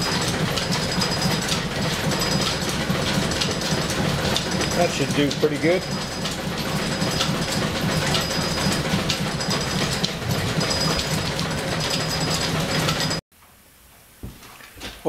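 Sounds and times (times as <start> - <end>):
belt-driven machinery clattering: 0.0 - 13.2.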